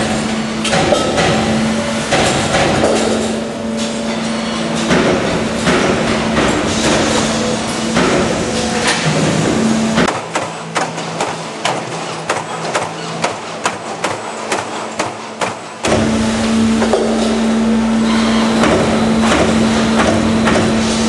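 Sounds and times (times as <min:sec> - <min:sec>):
punch press machine hum: 0:00.0 - 0:21.0.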